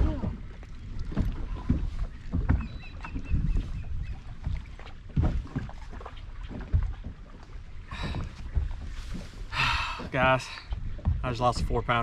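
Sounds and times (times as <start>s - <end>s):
small waves slapping boat hull: 0.0s - 12.0s.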